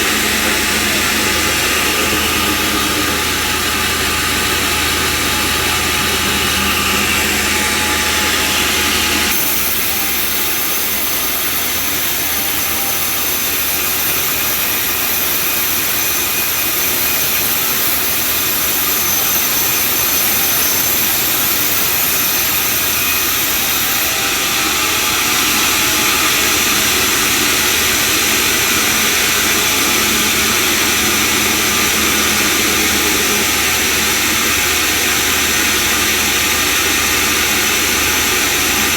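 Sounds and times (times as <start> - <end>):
bandsaw running: 0.0 - 38.9.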